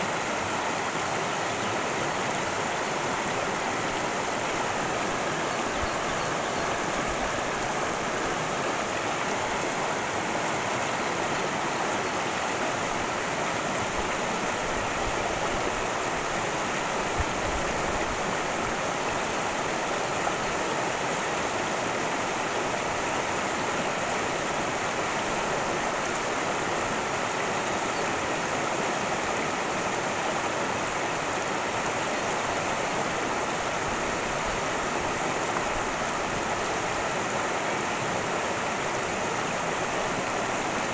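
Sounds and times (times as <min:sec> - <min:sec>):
creek water babbling over rocks: 0:00.0 - 0:40.9.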